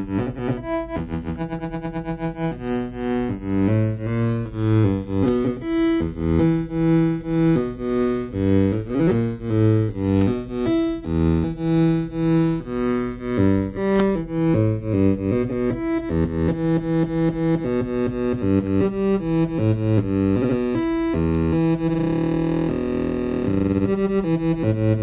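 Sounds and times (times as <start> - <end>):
modular synthesizer sequence: 0.0 - 25.0.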